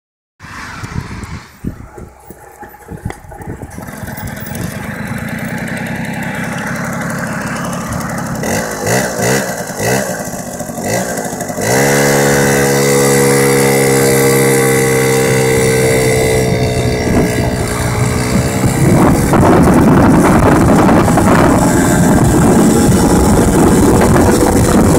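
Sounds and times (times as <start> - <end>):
two-stroke engine revving: 0.5 - 24.9.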